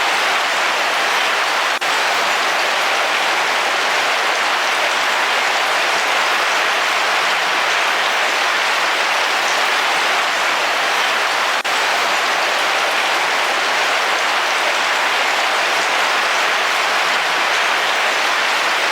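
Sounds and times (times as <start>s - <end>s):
heavy rain on a car roof: 0.0s - 18.9s.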